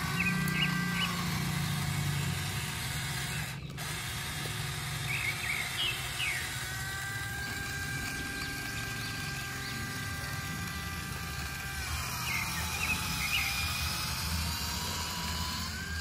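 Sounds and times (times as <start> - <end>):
toy tractor motor whirring: 0.0 - 16.0.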